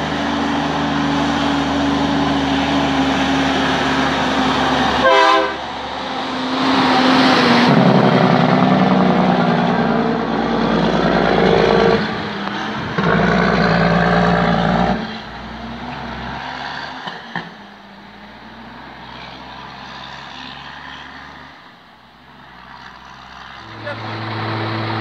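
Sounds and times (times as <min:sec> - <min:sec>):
diesel truck pulling away: 0:00.0 - 0:25.0.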